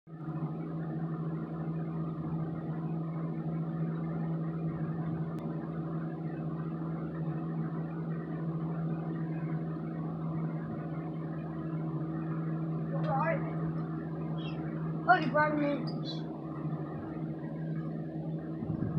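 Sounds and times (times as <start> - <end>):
low mechanical hum: 0.1 - 18.9.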